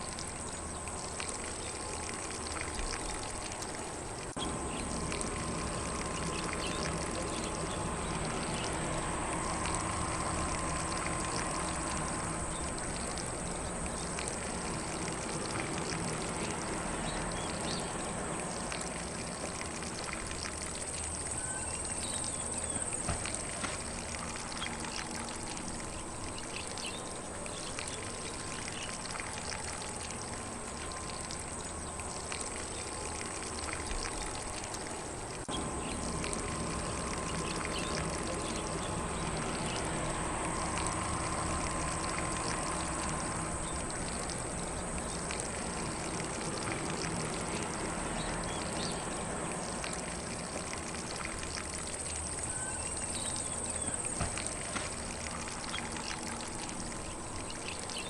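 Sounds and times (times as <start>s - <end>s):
sprinkler spraying water on grass: 0.0s - 58.0s.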